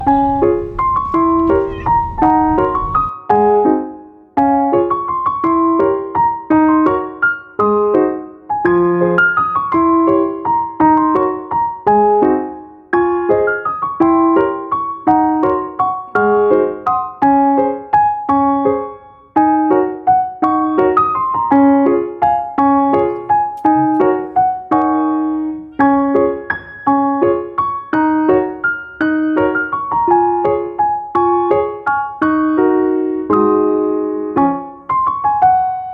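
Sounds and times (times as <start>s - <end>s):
light keyboard melody: 0.0s - 35.9s.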